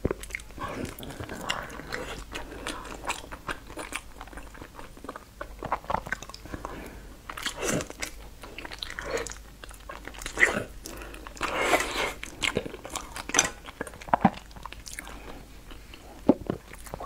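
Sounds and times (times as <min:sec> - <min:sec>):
wet chewing and slurping: 0:00.0 - 0:17.0.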